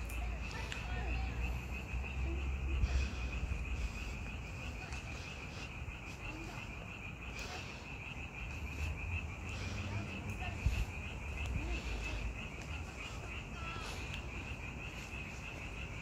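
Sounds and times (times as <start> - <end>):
chorus of frogs calling: 0.0 - 16.0.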